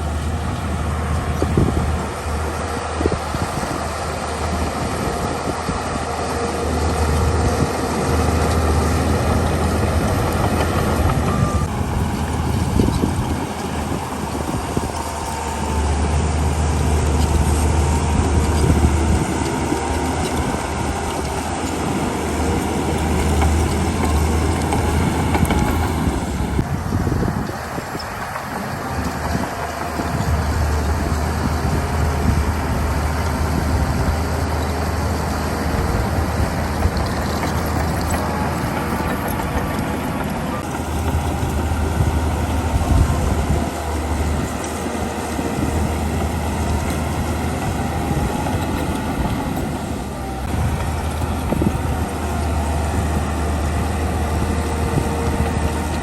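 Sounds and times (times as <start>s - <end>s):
heavy diesel machinery engine hum: 0.0s - 56.0s
mechanical rumble: 0.0s - 56.0s.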